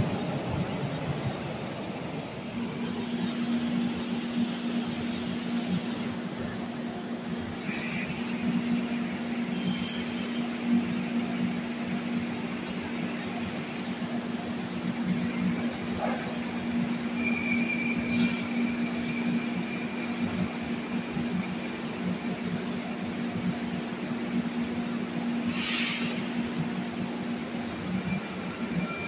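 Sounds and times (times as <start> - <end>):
train electrical equipment humming: 0.0 - 29.0.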